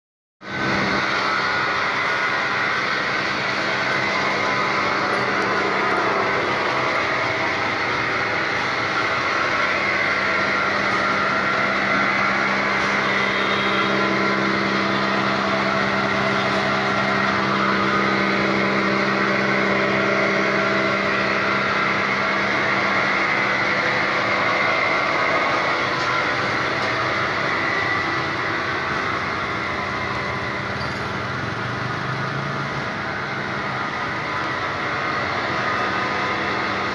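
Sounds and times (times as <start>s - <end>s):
plastic crusher motor humming: 0.4s - 36.9s.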